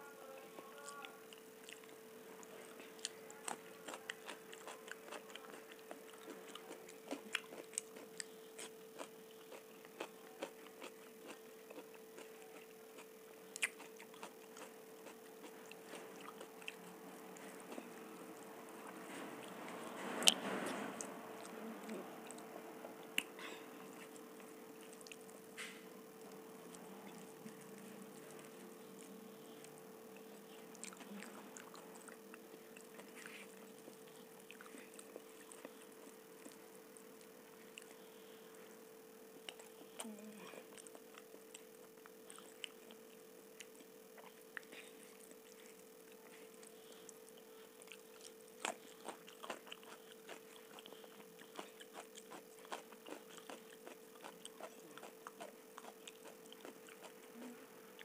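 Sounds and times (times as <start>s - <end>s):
steady faint hum: 0.0s - 58.0s
chewing and mouth sounds: 0.5s - 20.4s, 21.0s - 38.2s, 39.3s - 58.0s.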